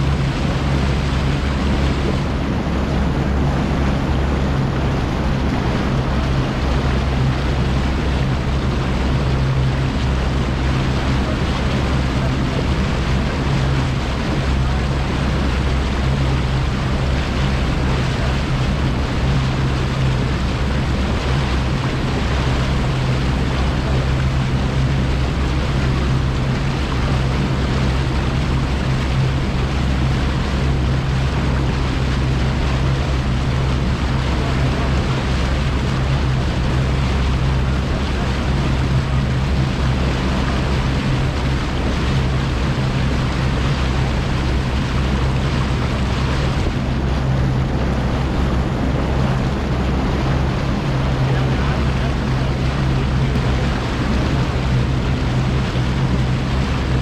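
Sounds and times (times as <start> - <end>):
outboard motor humming: 0.0 - 57.0
water rushing past boat: 0.0 - 57.0.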